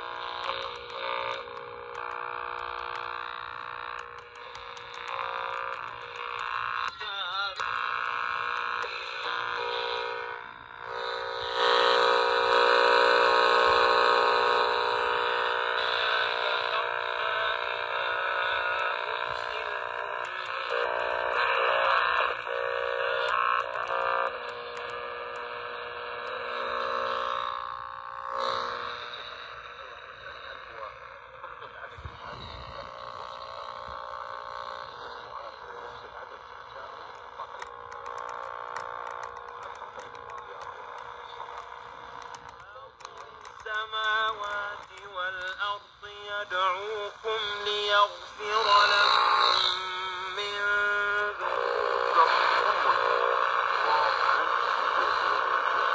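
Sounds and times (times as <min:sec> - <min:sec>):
radio playing from small speaker: 0:00.0 - 0:55.9.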